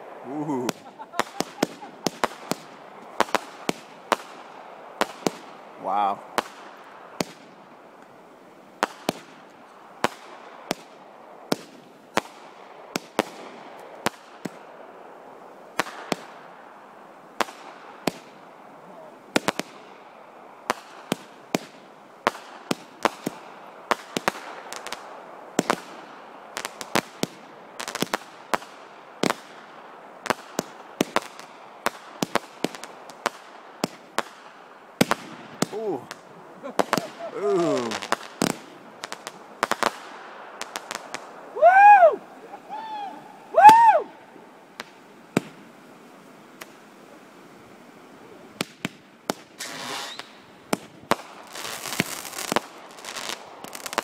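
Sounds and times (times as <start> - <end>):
fireworks bangs: 0.0 - 7.7, 8.8 - 14.8, 15.7 - 16.8, 17.4 - 44.2, 44.8 - 45.7, 48.6 - 54.0
steady rush of noise: 0.0 - 49.6.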